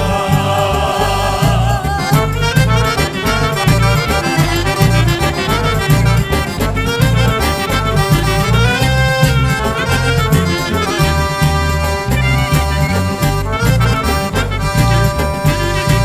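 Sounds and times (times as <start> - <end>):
music with strong beat: 0.0 - 16.0.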